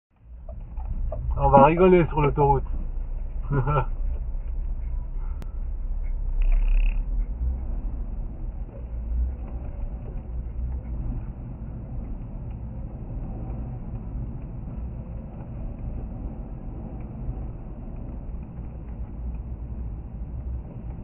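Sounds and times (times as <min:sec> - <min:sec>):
car engine and tyres rumbling: 0:00.1 - 0:21.0.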